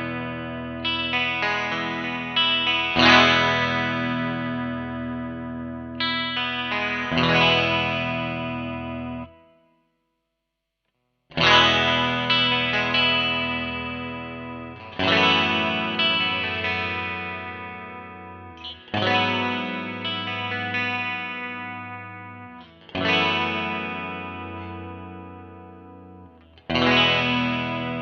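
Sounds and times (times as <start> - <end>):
electric guitar chords: 0.0 - 9.8, 11.3 - 28.0.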